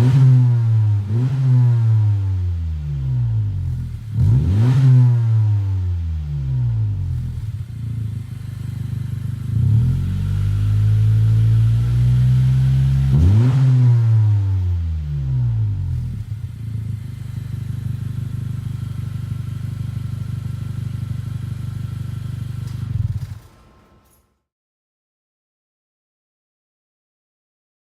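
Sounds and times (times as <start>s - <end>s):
car engine revving and idling: 0.0s - 23.6s.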